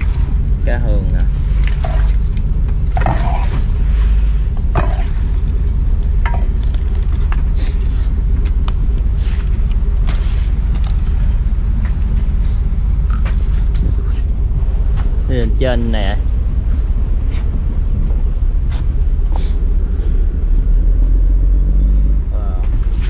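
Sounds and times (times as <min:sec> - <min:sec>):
diesel engine low rumble: 0:00.0 - 0:23.0.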